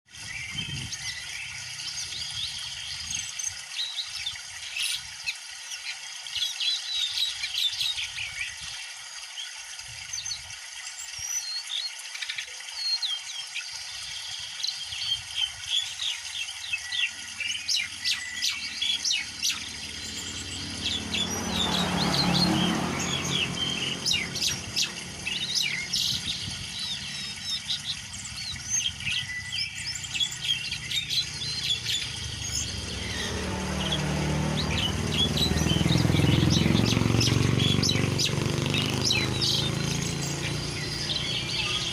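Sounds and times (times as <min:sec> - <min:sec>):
songbirds chirping and trilling: 0:00.1 - 0:41.9.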